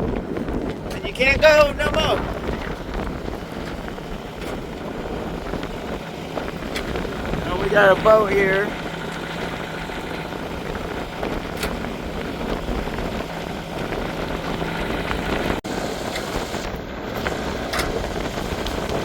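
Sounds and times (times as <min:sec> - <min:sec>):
choppy water: 0:00.0 - 0:19.0
wind: 0:00.0 - 0:19.0.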